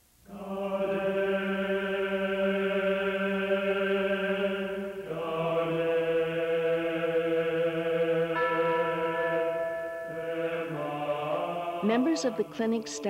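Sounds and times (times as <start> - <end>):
droning chord: 1.1 - 13.0.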